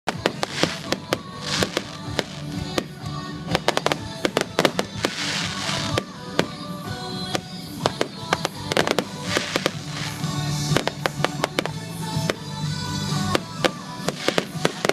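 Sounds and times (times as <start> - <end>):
crackling hiss: 0.1 - 6.6, 7.2 - 14.9
fireworks bangs: 0.1 - 14.9
music: 0.1 - 14.9.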